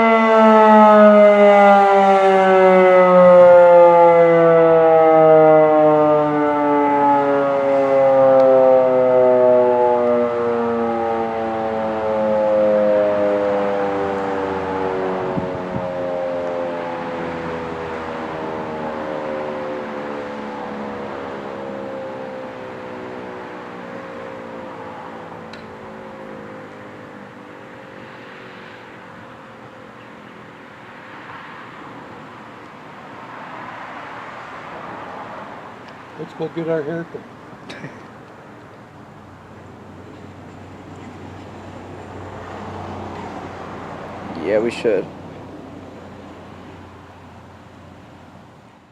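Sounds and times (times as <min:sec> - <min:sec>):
warning siren gliding down: 0:00.0 - 0:37.6, 0:38.2 - 0:48.9
road traffic noise: 0:00.0 - 0:48.9.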